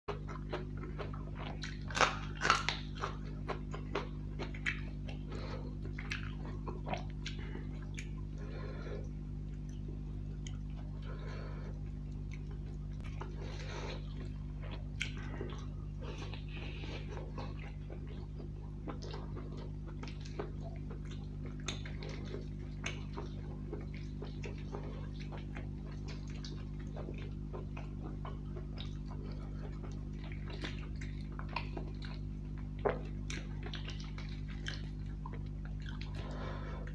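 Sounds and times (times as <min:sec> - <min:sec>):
steady low hum: 0:00.1 - 0:36.9
wet eating smacks and chewing: 0:00.1 - 0:36.9.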